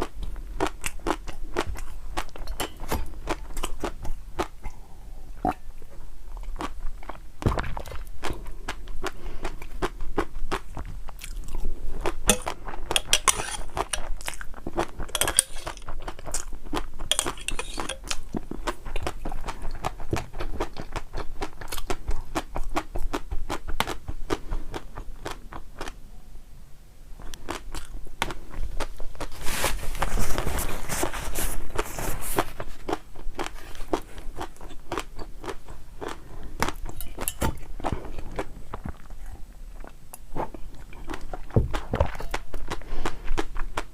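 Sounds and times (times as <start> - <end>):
person crunching and chewing food: 0.0 - 26.0, 27.2 - 43.9.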